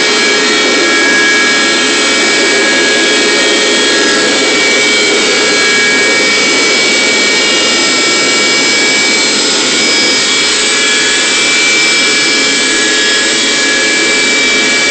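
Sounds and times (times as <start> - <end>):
carpet cleaner motor whining: 0.0 - 14.9.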